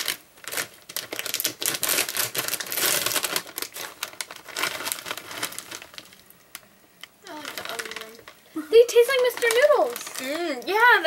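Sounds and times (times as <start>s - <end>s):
plastic snack bag crackling: 0.0s - 11.0s.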